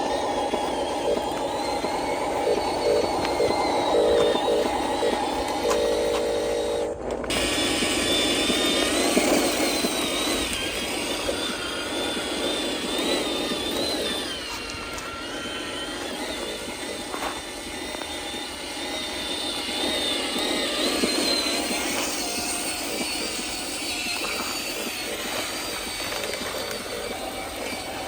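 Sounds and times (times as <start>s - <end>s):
gear grinding: 0.0s - 28.0s
small electric motors whining: 0.0s - 28.0s.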